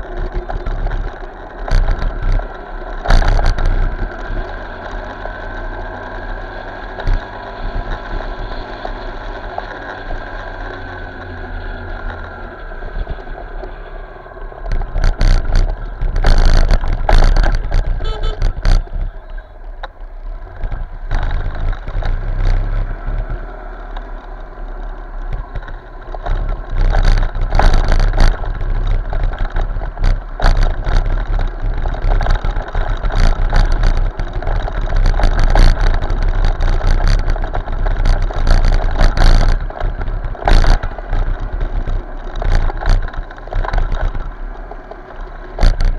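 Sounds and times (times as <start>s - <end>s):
motorcycle engine: 0.0s - 45.9s
road traffic: 0.0s - 45.9s.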